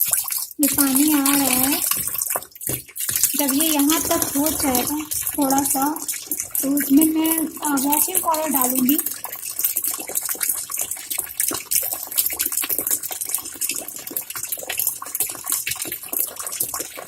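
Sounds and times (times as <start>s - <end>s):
water pouring into tub: 0.0s - 16.9s.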